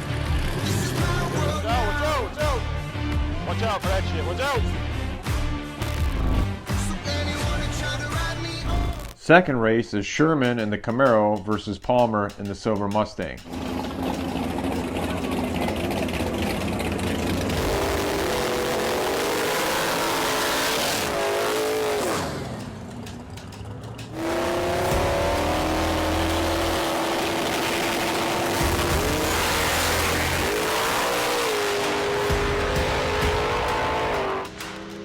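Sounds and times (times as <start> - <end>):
car engines revving: 0.0 - 7.9, 13.4 - 35.0.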